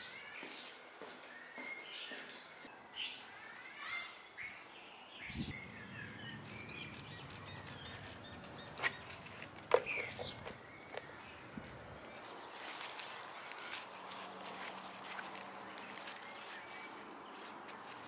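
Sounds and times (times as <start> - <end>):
birds chirping and calling: 0.0 - 14.5.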